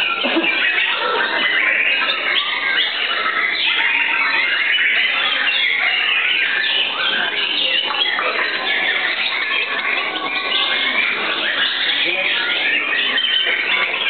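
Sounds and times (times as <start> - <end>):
birds singing whistles and trills: 0.0 - 14.0.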